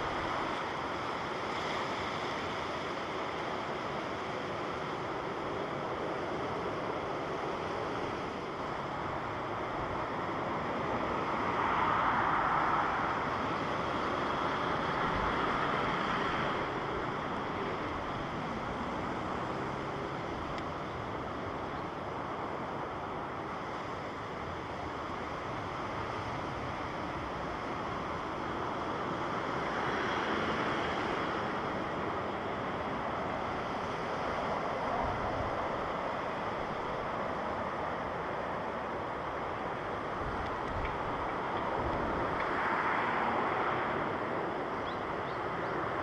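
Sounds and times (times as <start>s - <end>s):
distant jet engine rush: 0.0s - 46.0s.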